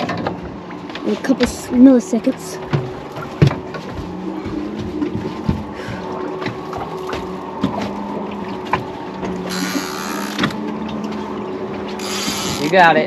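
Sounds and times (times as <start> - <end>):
outboard boat engines idling: 0.0 - 13.0.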